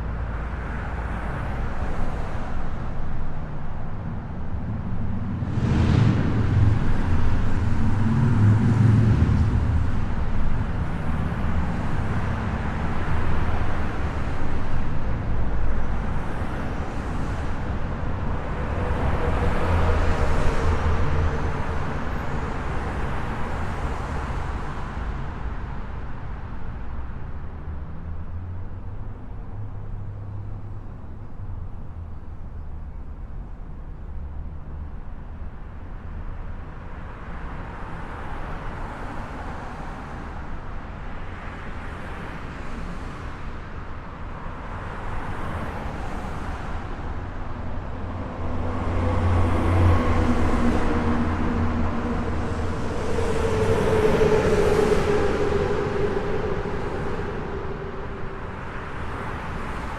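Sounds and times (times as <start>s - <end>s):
highway traffic rushing: 0.0s - 59.9s.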